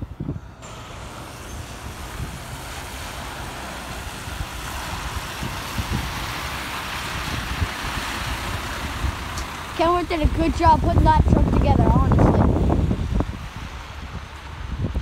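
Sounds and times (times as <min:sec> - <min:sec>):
wind buffeting microphone: 0:00.0 - 0:15.0
truck tyres hissing on wet road: 0:00.2 - 0:15.0.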